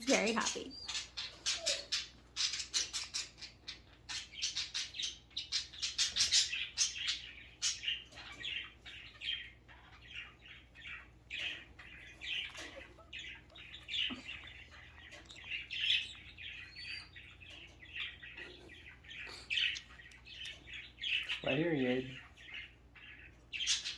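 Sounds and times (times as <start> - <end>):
parrot chirping: 0.0 - 23.9.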